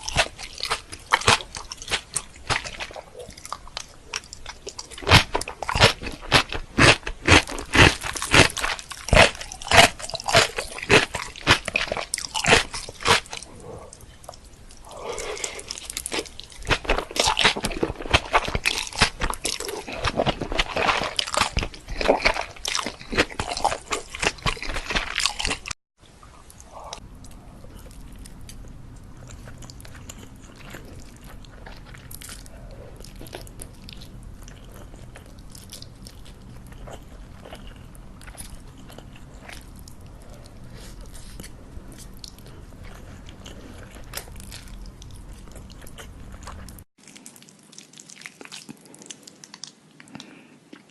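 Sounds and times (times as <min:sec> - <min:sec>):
steady low hum: 0:00.0 - 0:25.4, 0:26.0 - 0:46.9
crunching and biting food: 0:00.0 - 0:25.8, 0:26.4 - 0:50.9
quiet chewing: 0:00.0 - 0:50.9.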